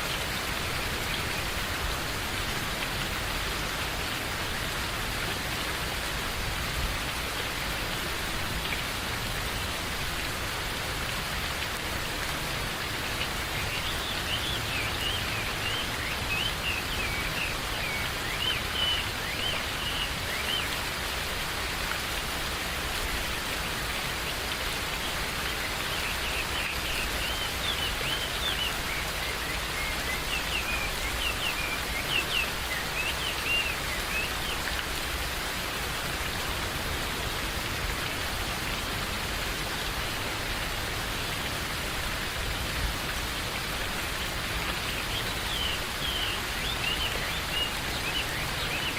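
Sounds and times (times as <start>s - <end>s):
rain falling in forest: 0.0s - 48.9s.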